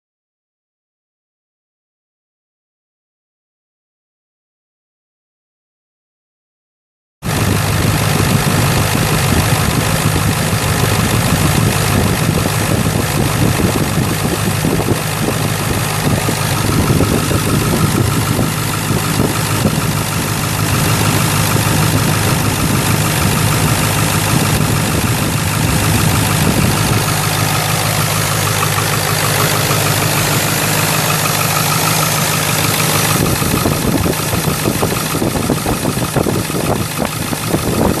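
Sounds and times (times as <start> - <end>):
diesel engine idling: 7.3 - 38.0.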